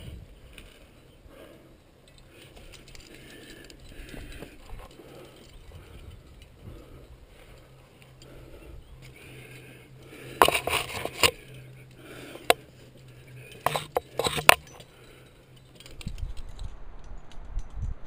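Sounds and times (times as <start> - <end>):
metal climbing gear clinking: 0.0 - 16.7
low rumbling noise: 0.0 - 18.0.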